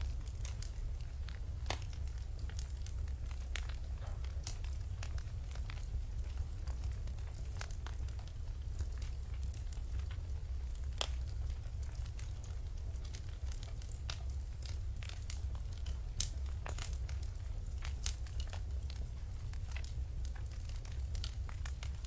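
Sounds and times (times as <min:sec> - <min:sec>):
fire crackling and popping: 0:00.0 - 0:22.0
low rumble of fire: 0:00.0 - 0:22.0.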